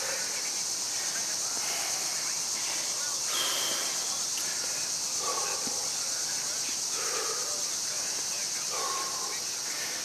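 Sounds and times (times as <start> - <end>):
faint chirps: 0.0 - 10.0
steady high hiss: 0.0 - 10.0.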